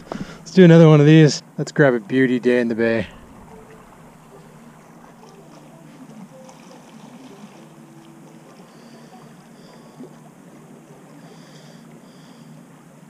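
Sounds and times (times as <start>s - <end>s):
background hiss: 0.0s - 13.0s
low hum: 0.0s - 13.0s.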